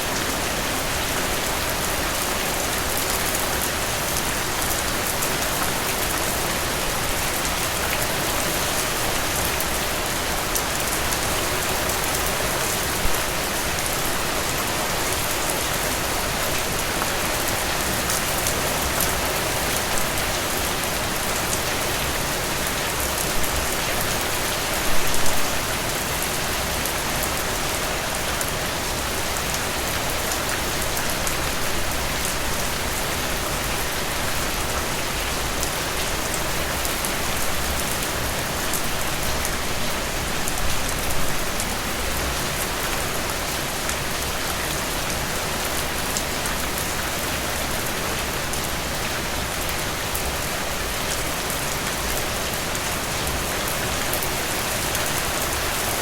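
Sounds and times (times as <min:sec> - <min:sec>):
steady rain falling in forest: 0:00.0 - 0:56.0.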